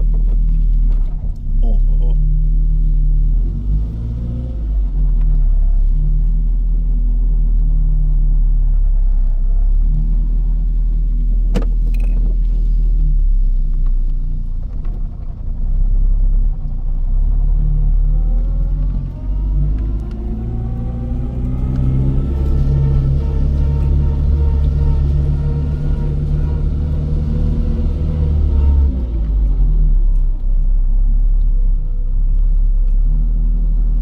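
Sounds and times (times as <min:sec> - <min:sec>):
car engine rumbling and revving: 0:00.0 - 0:34.0.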